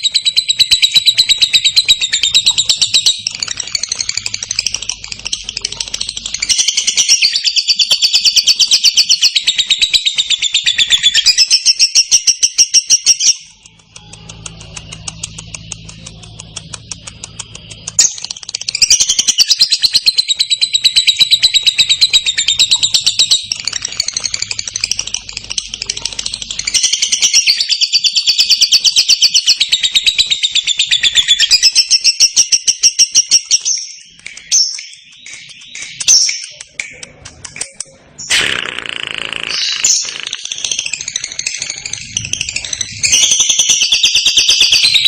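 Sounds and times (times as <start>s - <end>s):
bird chirps: 0.0s - 45.0s
lovebird chattering trill: 0.0s - 45.0s.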